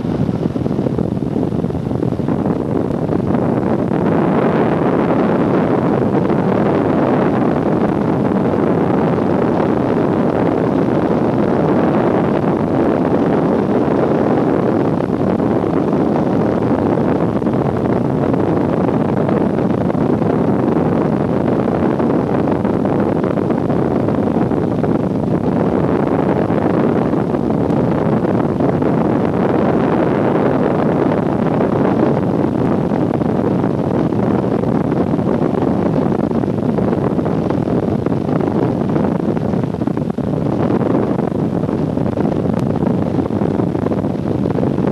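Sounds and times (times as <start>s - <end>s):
airliner cabin engine rush: 0.0s - 44.9s.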